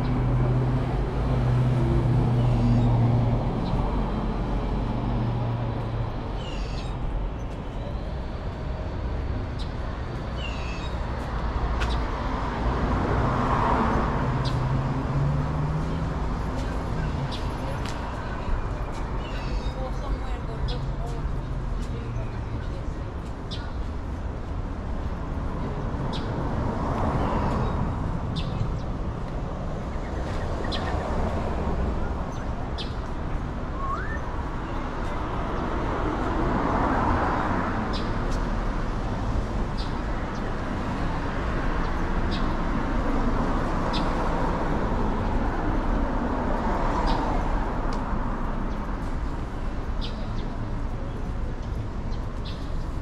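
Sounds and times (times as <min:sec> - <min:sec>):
city traffic hum: 0:00.0 - 0:53.0.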